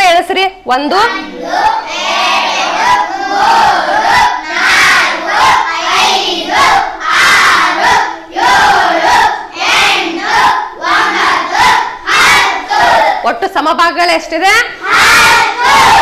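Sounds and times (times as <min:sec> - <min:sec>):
children answering in unison: 0:01.1 - 0:13.2, 0:14.8 - 0:16.0.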